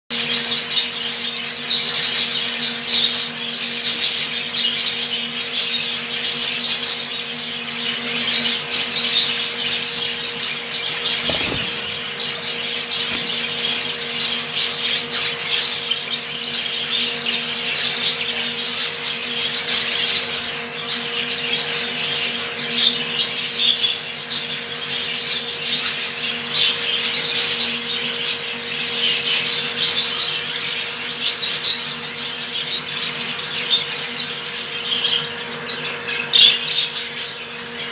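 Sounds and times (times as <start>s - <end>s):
small birds chirping: 0.2s - 37.9s.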